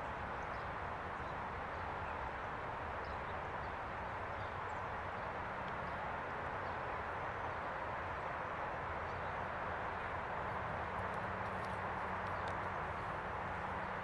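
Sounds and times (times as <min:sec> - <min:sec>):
distant road traffic hum: 0:00.0 - 0:14.0.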